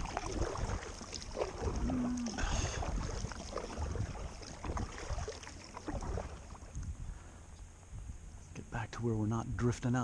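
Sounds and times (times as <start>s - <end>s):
water against kayak hull: 0.0s - 8.0s
wind rumble on microphone: 0.0s - 10.0s.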